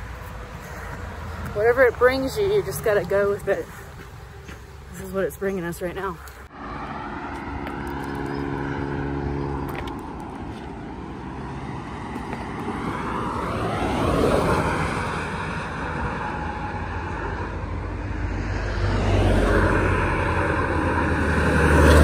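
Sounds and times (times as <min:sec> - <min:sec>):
vehicles passing on highway: 0:00.0 - 0:22.0.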